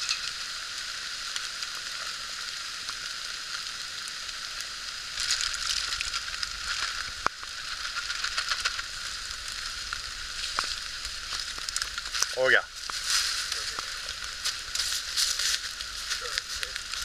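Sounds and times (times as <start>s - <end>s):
campfire hissing and crackling: 0.0s - 17.0s.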